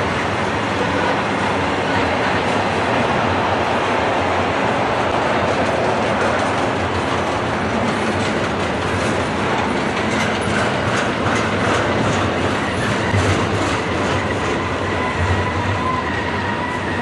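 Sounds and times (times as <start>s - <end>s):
steel wheels rolling on rail: 0.0s - 17.0s.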